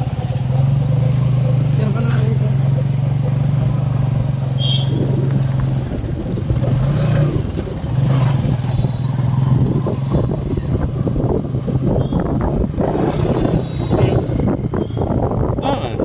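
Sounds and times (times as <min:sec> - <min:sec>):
road rumble: 0:00.0 - 0:16.0
vehicle engine cruising: 0:00.0 - 0:16.0.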